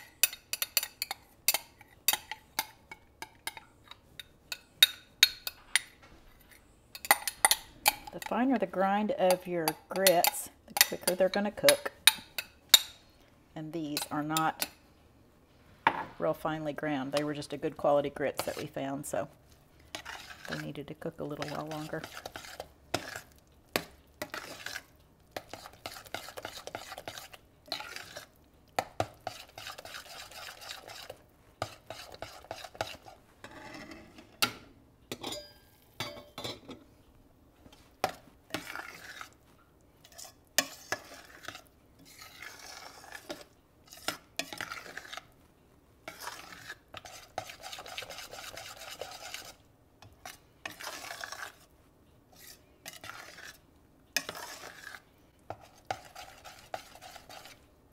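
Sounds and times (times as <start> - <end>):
whisk scraping a saucepan: 0.0 - 13.0, 13.7 - 14.8, 17.2 - 19.2, 19.8 - 34.2, 37.7 - 45.4, 46.0 - 57.7.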